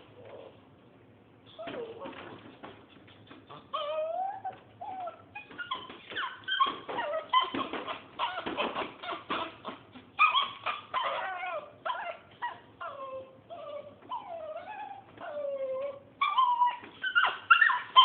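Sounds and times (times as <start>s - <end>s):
dog whining and yelping: 1.5s - 2.4s, 3.1s - 18.0s.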